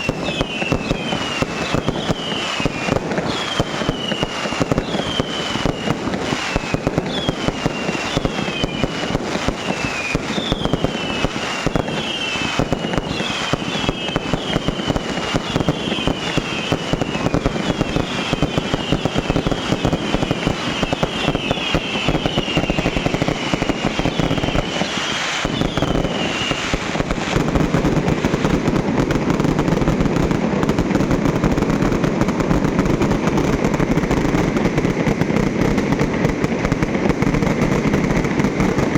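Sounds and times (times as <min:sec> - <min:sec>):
falling firework whistles: 0:00.0 - 0:38.9
fireworks crackling: 0:00.0 - 0:38.9.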